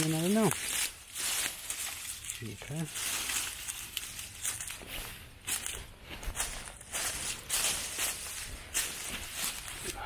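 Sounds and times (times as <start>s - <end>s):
footsteps crunching dry leaves: 0.0s - 10.0s.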